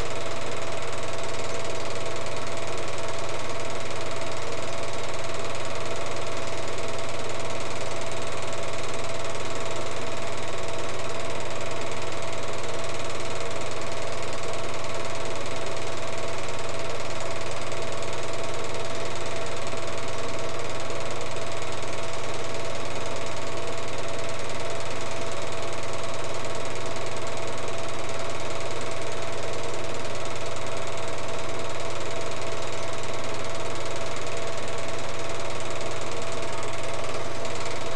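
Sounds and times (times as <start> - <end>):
film projector whirring and clattering: 0.0 - 37.9.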